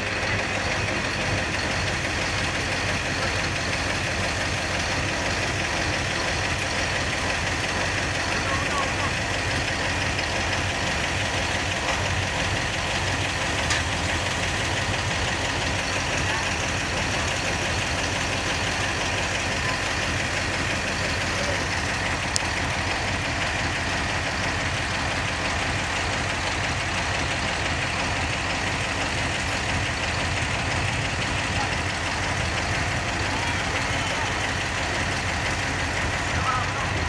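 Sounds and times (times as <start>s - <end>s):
large engine idling: 0.0s - 37.0s.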